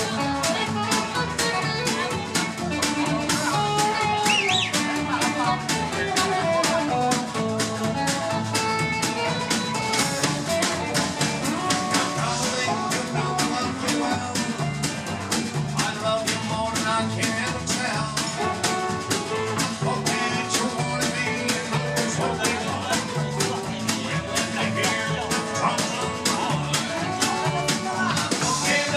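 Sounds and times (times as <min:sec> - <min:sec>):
bass: 0:00.0 - 0:28.9
drum kit beat: 0:00.0 - 0:28.9
guitar lines: 0:00.0 - 0:28.9.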